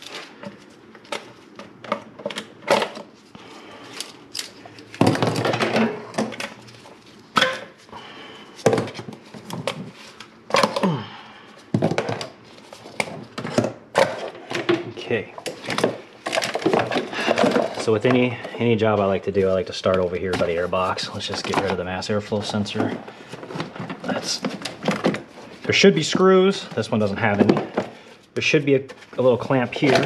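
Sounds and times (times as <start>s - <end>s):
rustling and scraping: 0.0s - 10.8s, 11.5s - 30.0s.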